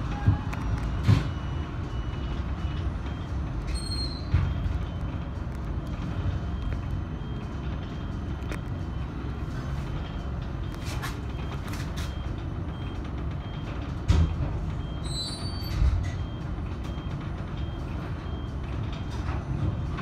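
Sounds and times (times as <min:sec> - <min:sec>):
tram rumbling along track: 0:00.0 - 0:20.0.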